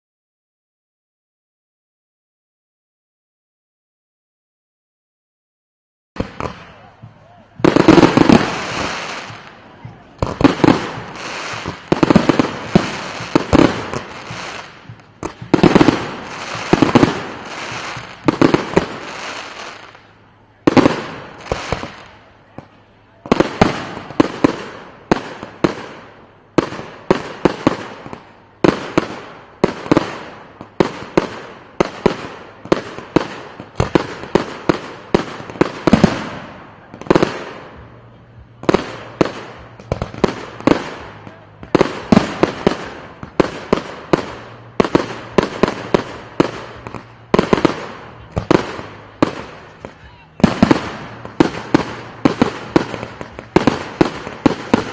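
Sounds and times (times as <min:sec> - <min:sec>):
fireworks bursting with bangs: 0:06.2 - 0:54.9.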